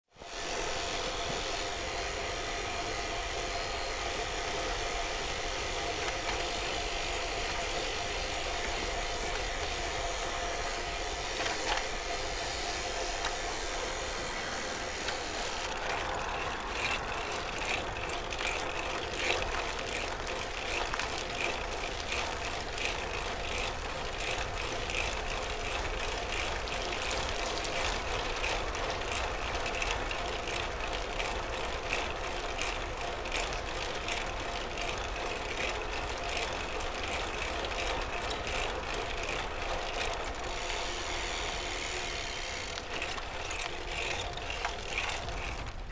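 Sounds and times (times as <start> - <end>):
bicycle tyre road noise: 0.0 - 45.9
bicycle drivetrain clicking: 0.1 - 45.9.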